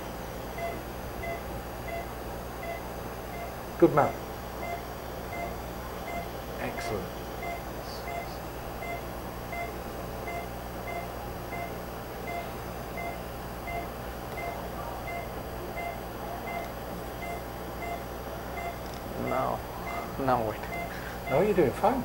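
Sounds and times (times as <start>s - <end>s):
low machine hum: 0.0s - 22.0s
patient monitor beeping: 0.0s - 22.0s.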